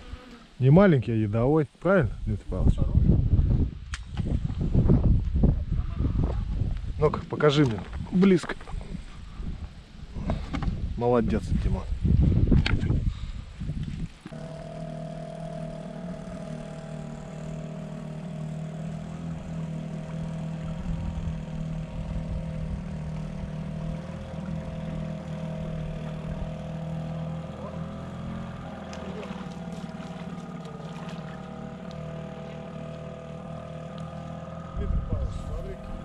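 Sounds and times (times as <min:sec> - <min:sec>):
outboard engine droning: 0:05.7 - 0:36.0.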